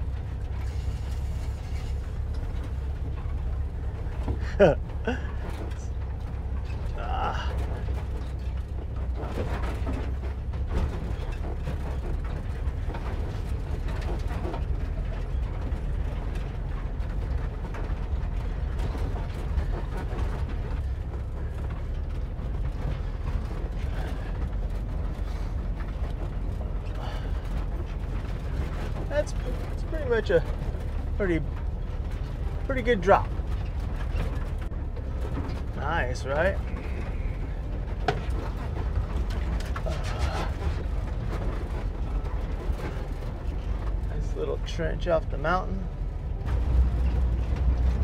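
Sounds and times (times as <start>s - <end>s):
body creaking and rattling: 0.0s - 48.0s
van engine low rumble: 0.0s - 48.0s.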